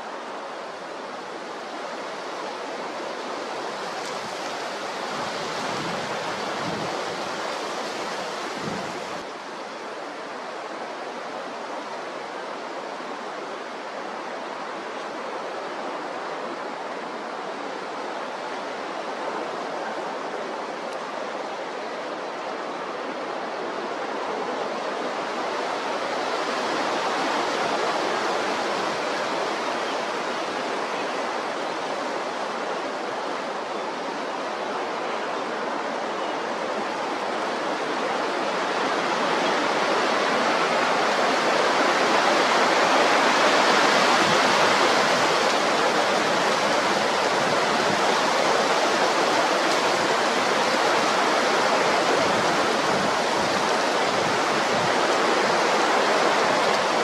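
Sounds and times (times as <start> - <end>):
strong wind blowing: 0.0 - 57.0.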